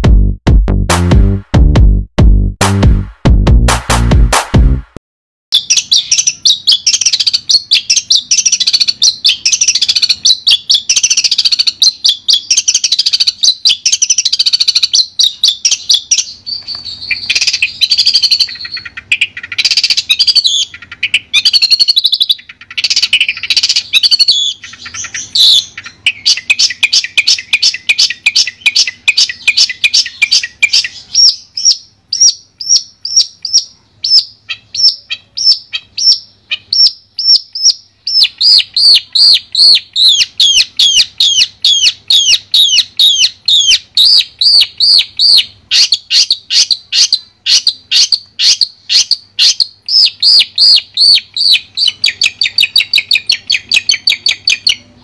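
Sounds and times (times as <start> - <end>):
bird singing chattering warble: 5.5 - 55.0.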